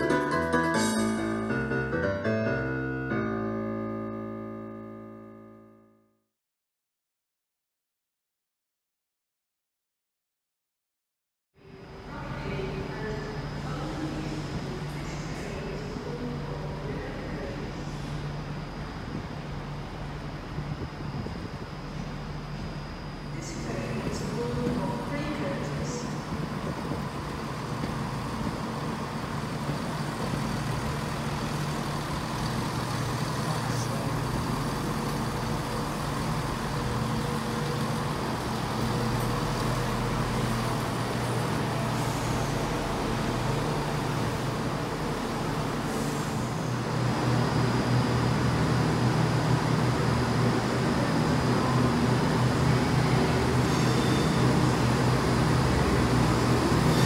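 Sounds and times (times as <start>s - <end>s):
diesel train engine running: 0.0s - 5.2s, 11.6s - 57.0s.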